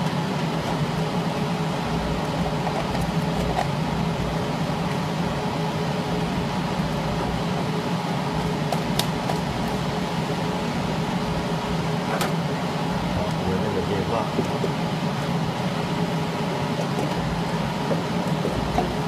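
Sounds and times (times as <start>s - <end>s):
machine fan and conveyor hum: 0.0s - 19.0s.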